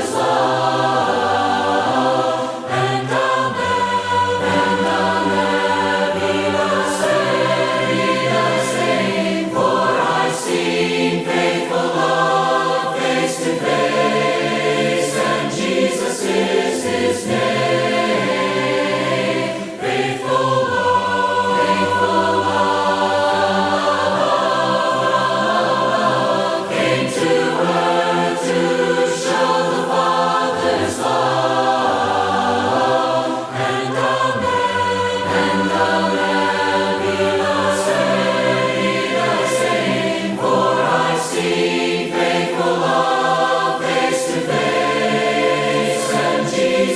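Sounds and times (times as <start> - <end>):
choir singing a hymn: 0.0 - 46.9.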